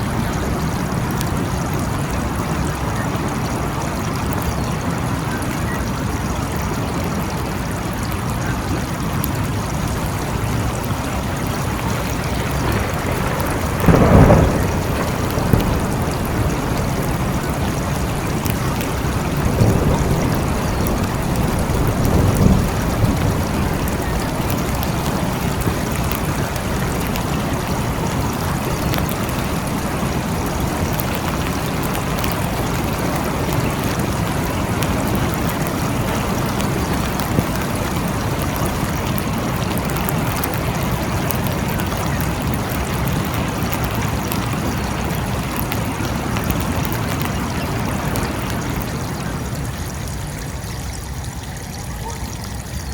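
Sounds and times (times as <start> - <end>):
thunder rumbling: 0.0 - 4.5, 8.7 - 52.9
steady rain falling: 0.0 - 52.9.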